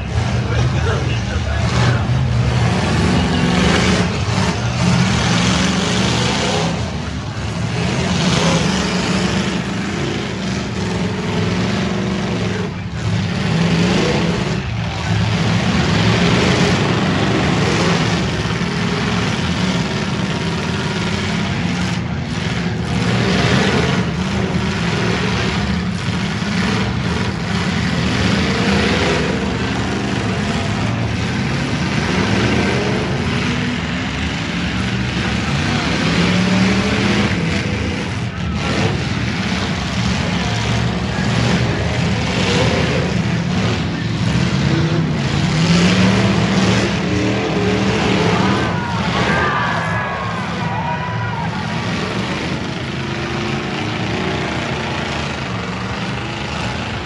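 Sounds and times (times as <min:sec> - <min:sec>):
car engines revving together: 0:00.0 - 0:50.7.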